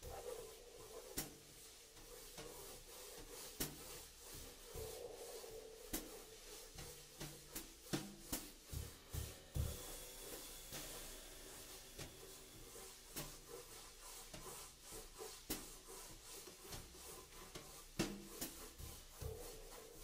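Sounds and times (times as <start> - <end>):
crayon rubbing on paper: 0.0 - 20.0.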